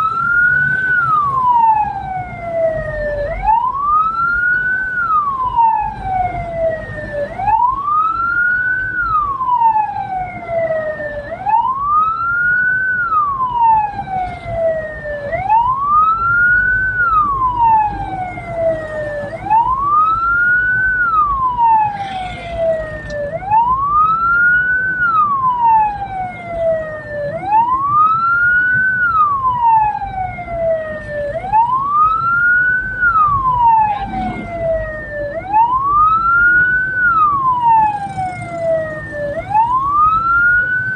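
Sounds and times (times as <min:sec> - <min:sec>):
electronic siren wailing: 0:00.0 - 0:40.9
vehicle engine and road noise: 0:00.0 - 0:40.9.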